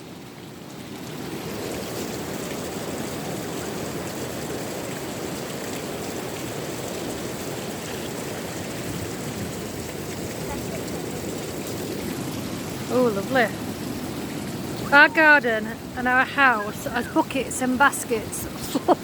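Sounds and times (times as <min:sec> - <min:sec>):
running water splashing: 0:00.5 - 0:19.0.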